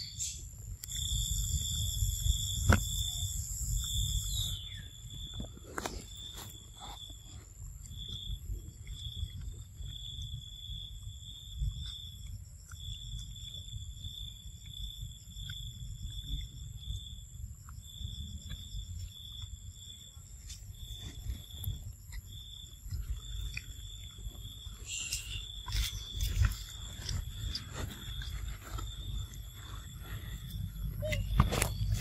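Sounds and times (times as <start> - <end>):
high insect whine: 0.0 - 32.0
insects trilling: 0.0 - 32.0
low background rumble: 0.4 - 32.0.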